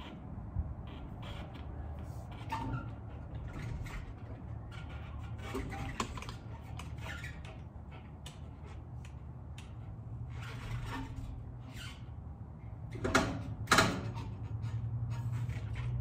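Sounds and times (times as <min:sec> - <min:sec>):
bike squeaks scrapes and clicks: 0:00.0 - 0:12.2, 0:13.8 - 0:16.0.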